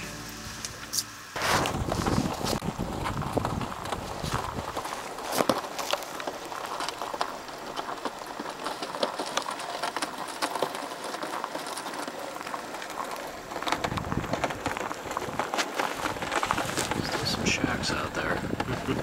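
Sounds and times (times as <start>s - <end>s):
footsteps crunching on snow: 0.0s - 19.0s.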